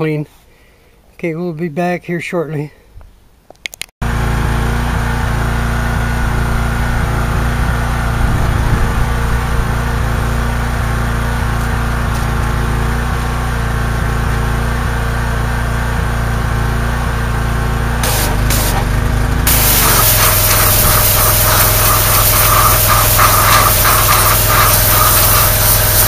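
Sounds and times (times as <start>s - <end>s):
pressure washer engine running: 4.0s - 26.0s.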